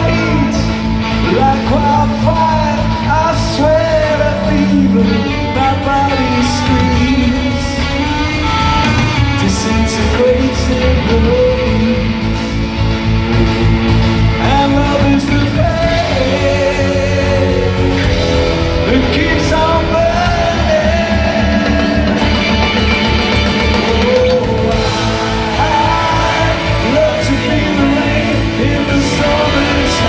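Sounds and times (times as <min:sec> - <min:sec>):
person singing: 0:00.0 - 0:12.6, 0:13.4 - 0:30.0
drums: 0:00.0 - 0:30.0
electric guitars: 0:00.0 - 0:30.0.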